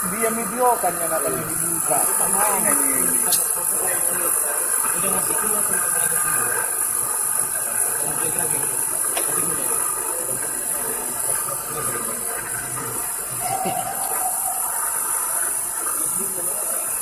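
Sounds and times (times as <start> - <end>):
faint voices: 0.0 - 17.0
high hiss: 0.0 - 17.0
workshop machinery noise: 0.0 - 17.0.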